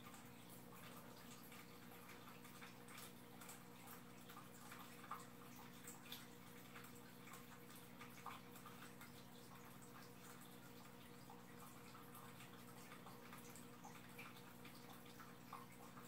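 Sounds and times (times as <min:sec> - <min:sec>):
aquarium filter humming: 0:00.0 - 0:16.0
small water drips: 0:00.0 - 0:16.0
water trickling: 0:00.0 - 0:16.0.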